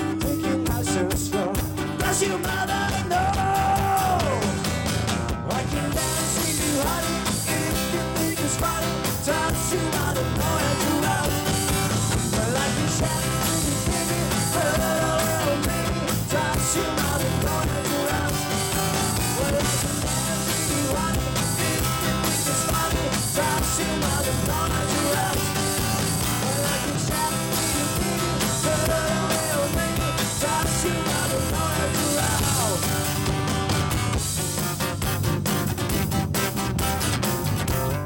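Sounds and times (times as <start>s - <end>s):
man singing: 0.0s - 4.7s, 5.3s - 34.3s
keyboard playing: 0.0s - 37.9s
acoustic guitar: 0.0s - 38.0s
electric bass: 0.0s - 38.0s.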